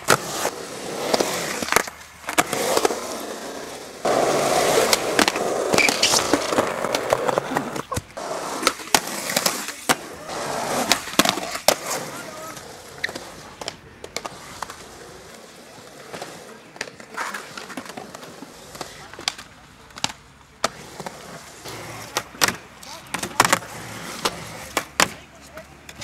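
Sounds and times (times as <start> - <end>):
skateboard clacking on ramp and ground: 0.0 - 26.0
skateboard wheels rolling on concrete: 0.0 - 26.0.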